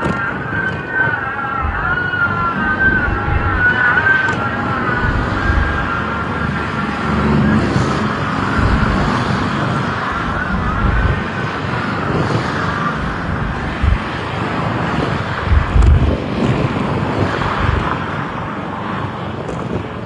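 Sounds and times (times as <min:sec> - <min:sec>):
wind knocking on microphone: 0:00.0 - 0:06.8, 0:07.8 - 0:18.4, 0:19.3 - 0:20.0
jet engines running: 0:00.0 - 0:20.0.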